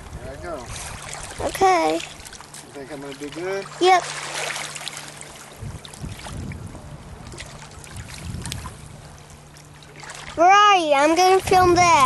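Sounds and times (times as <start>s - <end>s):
small waves lapping: 0.0s - 12.0s.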